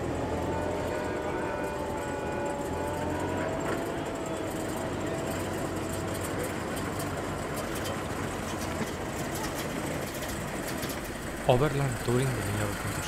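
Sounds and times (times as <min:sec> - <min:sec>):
car engines humming: 0:00.0 - 0:13.0.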